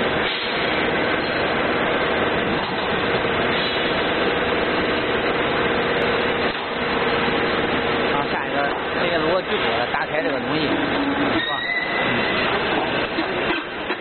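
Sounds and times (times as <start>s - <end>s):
industrial machinery humming: 0.0s - 14.0s.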